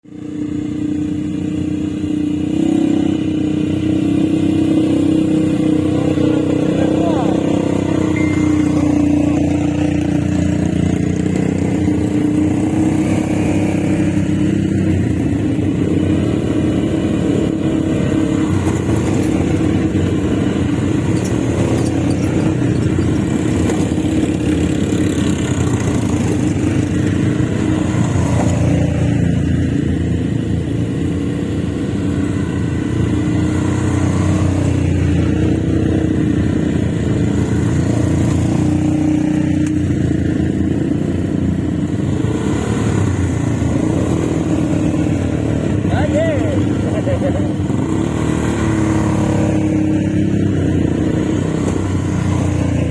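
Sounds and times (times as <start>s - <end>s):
quad bike engine running: 0.1s - 52.9s.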